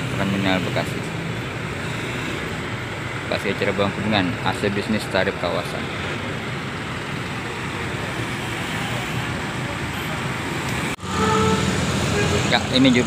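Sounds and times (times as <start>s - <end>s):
coach engine and tyres: 0.0s - 13.0s
traffic noise: 0.0s - 13.0s.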